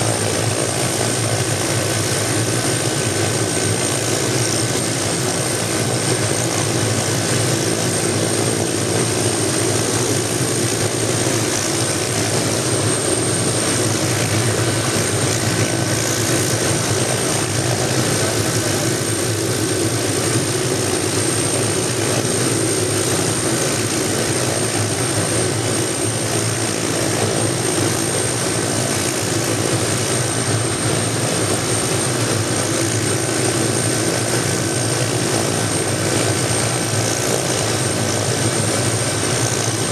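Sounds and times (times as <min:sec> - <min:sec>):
helicopter running with rotor turning: 0:00.0 - 0:39.9.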